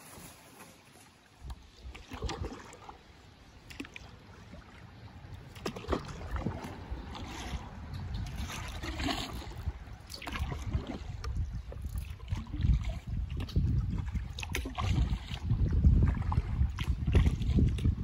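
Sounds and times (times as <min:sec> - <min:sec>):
water splashing around kayak: 0:00.0 - 0:18.0.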